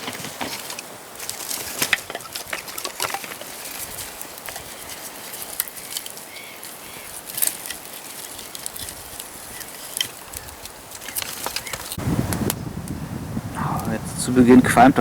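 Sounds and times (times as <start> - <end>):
campfire crackling and popping: 0.7 - 15.0.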